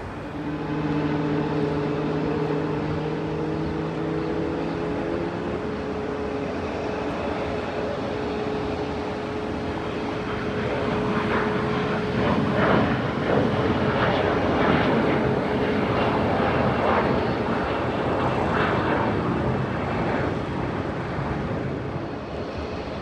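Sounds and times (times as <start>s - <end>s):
airliner engines whining: 0.0s - 23.0s.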